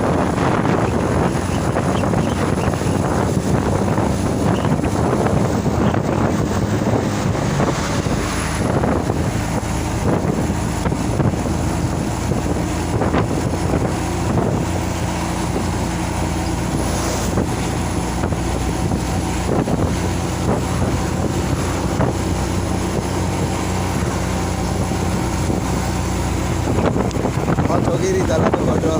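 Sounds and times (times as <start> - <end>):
road and wind noise: 0.0 - 28.9
truck engine running: 0.0 - 28.9.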